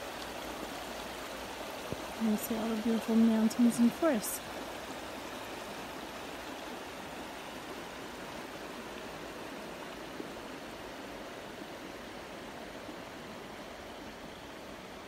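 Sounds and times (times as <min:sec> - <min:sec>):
water rushing over gravel: 0:00.0 - 0:15.0.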